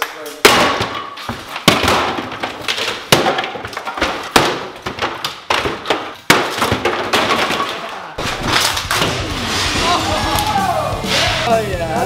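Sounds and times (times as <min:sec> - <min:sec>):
breaking wood clattering: 0:00.0 - 0:10.5
sledgehammer smashing wood cabinets: 0:00.4 - 0:10.3.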